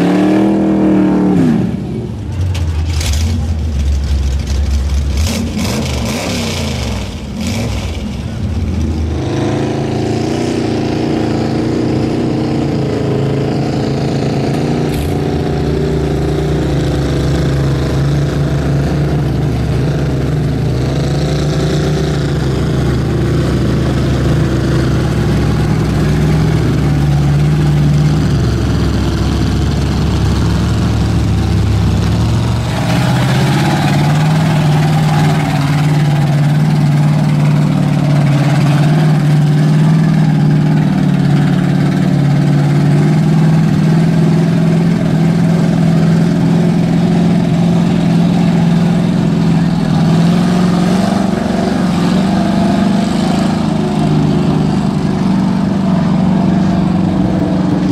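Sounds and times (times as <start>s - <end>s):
truck engine running low: 0.0s - 57.9s.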